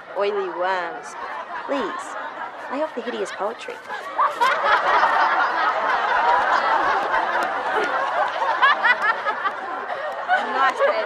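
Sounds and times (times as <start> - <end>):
kids laughing: 0.0 - 11.0.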